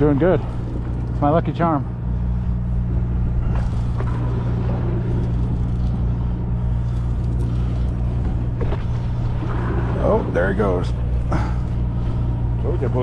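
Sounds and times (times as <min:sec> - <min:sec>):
boat engine droning: 0:00.0 - 0:13.0
water noise: 0:00.0 - 0:13.0.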